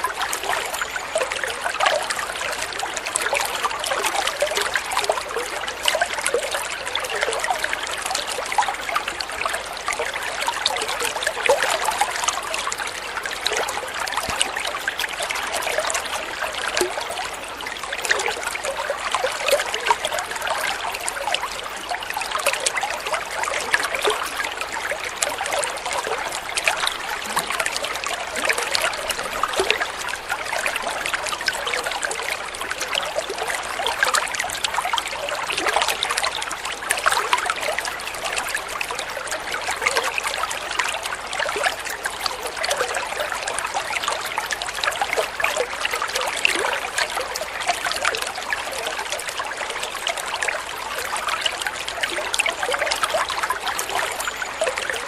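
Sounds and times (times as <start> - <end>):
water flowing and splashing: 0.0 - 55.0.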